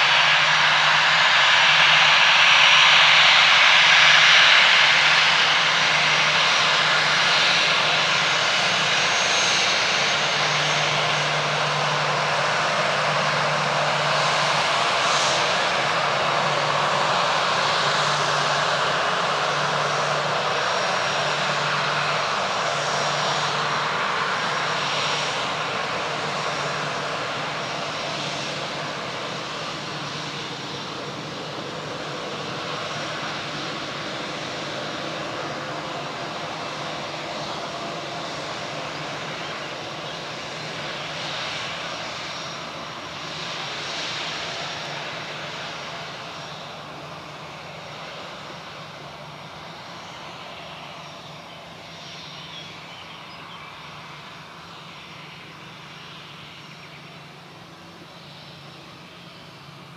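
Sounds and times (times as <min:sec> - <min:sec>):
jet engines hissing and whining: 0:00.0 - 0:59.9.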